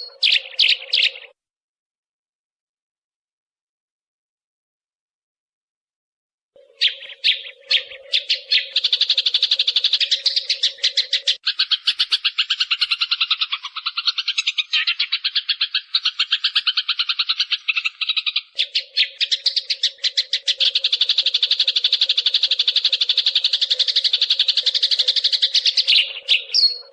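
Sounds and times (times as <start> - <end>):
sparrows chirping: 0.0 - 1.3, 6.6 - 26.9.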